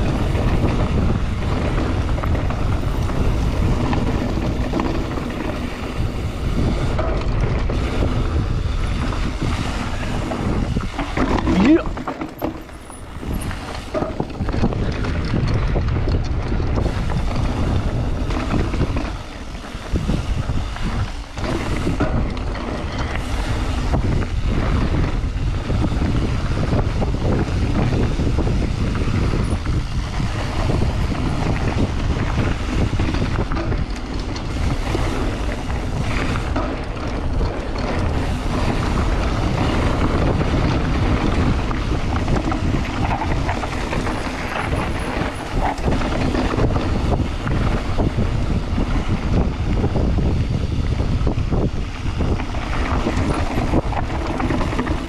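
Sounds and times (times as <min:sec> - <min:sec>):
mountain bike rolling and rattling: 0:00.0 - 0:55.0
wind noise on microphone: 0:00.0 - 0:55.0.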